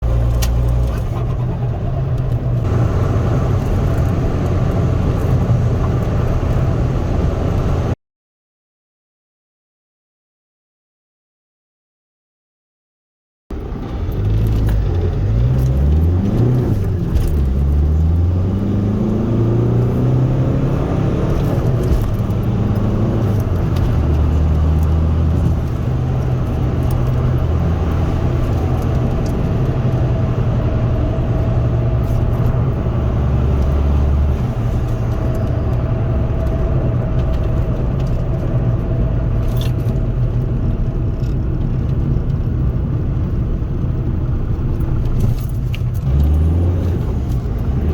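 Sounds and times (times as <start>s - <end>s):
car engine droning inside cabin: 0.0s - 8.0s, 13.6s - 47.9s.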